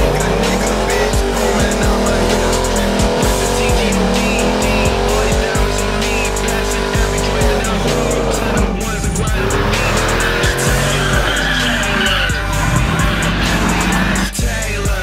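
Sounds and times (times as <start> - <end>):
tires squealing: 0.0 - 14.4
engine at high revs: 0.0 - 14.5
hip hop music: 0.0 - 15.0.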